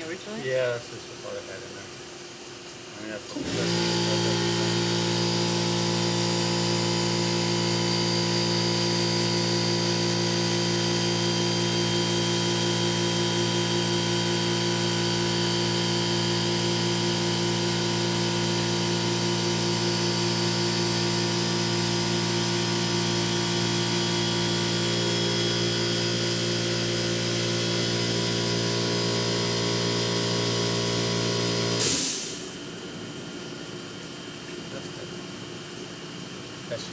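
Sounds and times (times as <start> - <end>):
machining center whine: 3.2 - 36.9.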